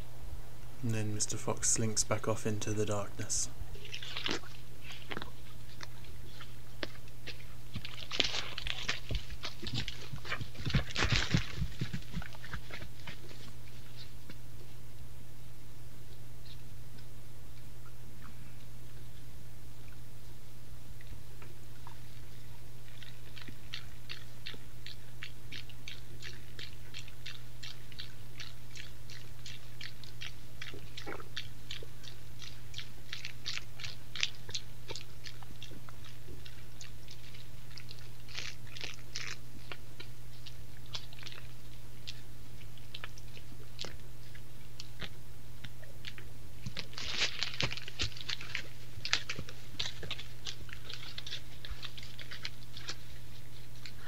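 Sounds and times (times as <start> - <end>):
low hum: 0.0 - 54.0
deer chewing crunching clicks: 1.0 - 14.4, 22.8 - 54.0.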